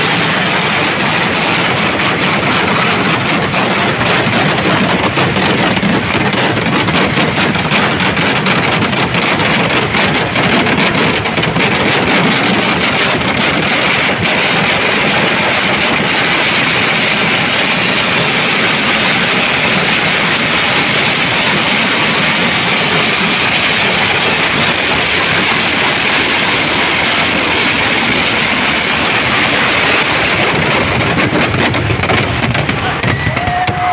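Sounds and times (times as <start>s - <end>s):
firecrackers exploding: 0.0s - 33.9s.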